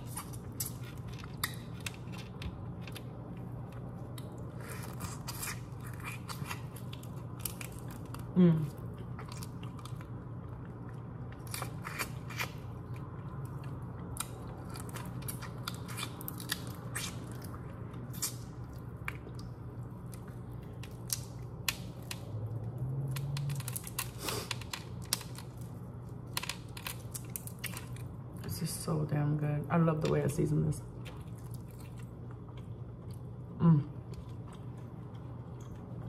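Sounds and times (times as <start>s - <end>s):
chewing and crunching: 0.0s - 28.4s, 30.8s - 36.0s
crisp clicks and wet smacks: 0.0s - 28.5s, 31.0s - 33.4s.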